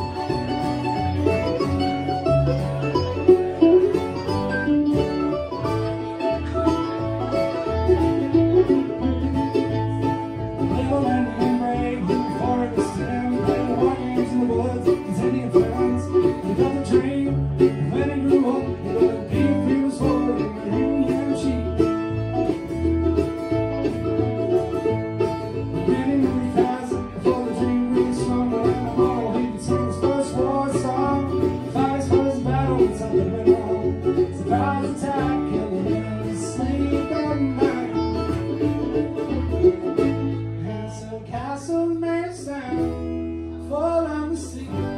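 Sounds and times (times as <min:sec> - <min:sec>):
banjo picking: 0:00.0 - 0:44.9
bluegrass band playing: 0:00.0 - 0:44.9
guitar picking: 0:00.0 - 0:44.9.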